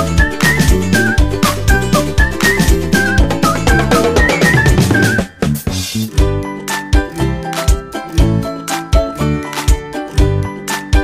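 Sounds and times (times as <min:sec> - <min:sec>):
music with drums and beat: 0:00.0 - 0:11.0.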